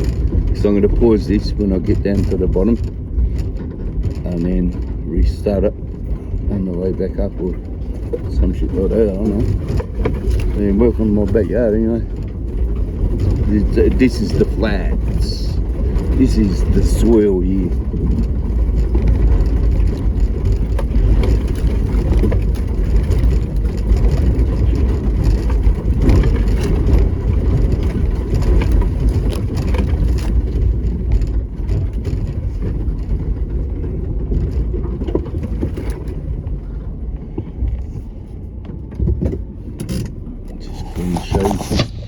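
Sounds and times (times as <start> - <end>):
knocks and rattles: 0.0 - 42.0
vehicle rumbling on dirt track: 0.0 - 42.0.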